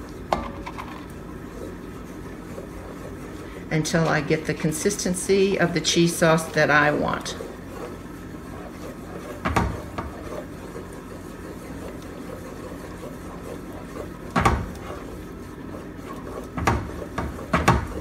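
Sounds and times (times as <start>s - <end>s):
low steady hum: 0.0s - 18.0s
wooden spoon stirring thick sauce: 0.0s - 18.0s.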